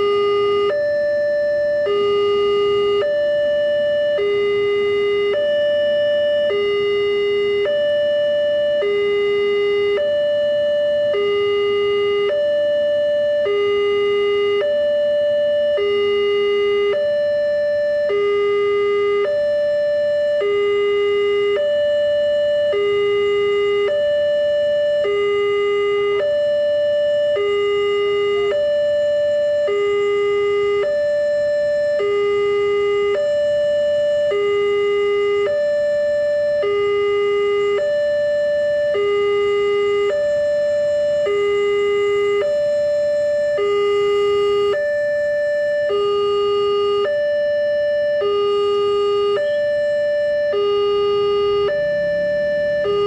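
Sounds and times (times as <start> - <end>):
level-crossing two-tone alarm: 0.0 - 53.0.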